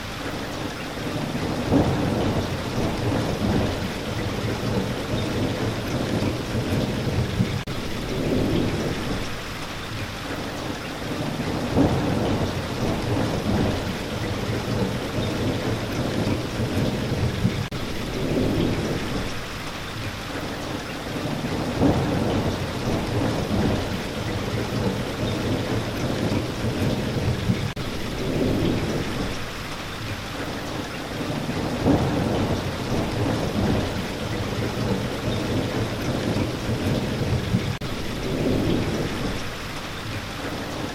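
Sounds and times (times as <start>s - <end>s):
steady rain: 0.0s - 40.9s
low rolling thunder: 0.6s - 9.4s, 10.9s - 19.6s, 21.1s - 40.9s.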